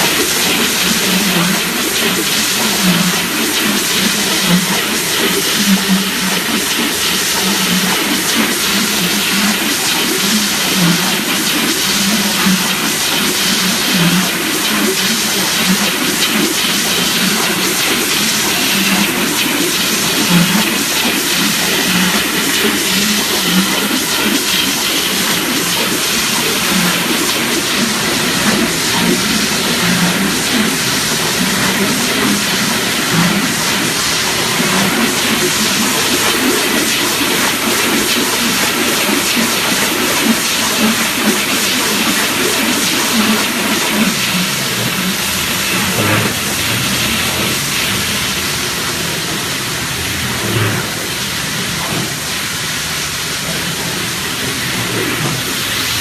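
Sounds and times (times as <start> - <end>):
machine mechanical hiss: 0.0 - 56.0.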